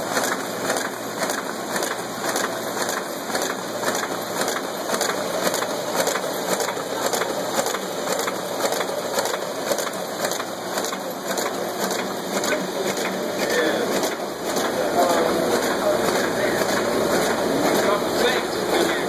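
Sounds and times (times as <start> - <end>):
paper folding machine clatter: 0.0 - 19.0.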